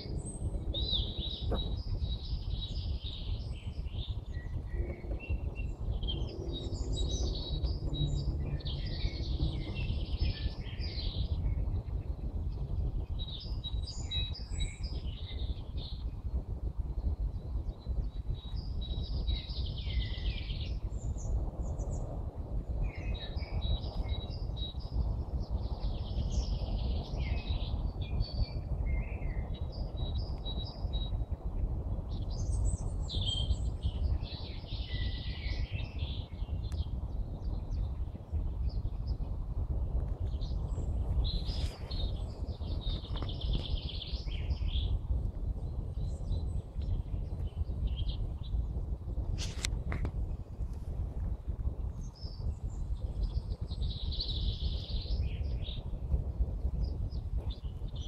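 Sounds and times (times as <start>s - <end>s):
songbirds singing: 0.0s - 58.0s
steady low rumble: 0.0s - 58.0s.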